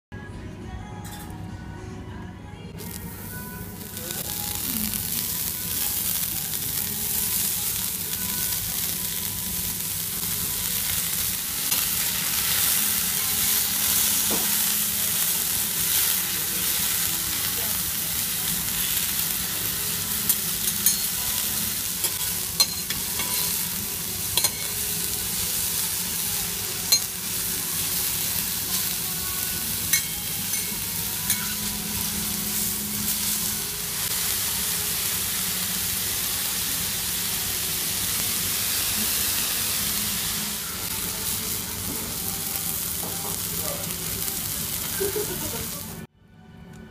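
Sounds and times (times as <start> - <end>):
mushrooms sizzling on griddle: 2.9 - 46.0.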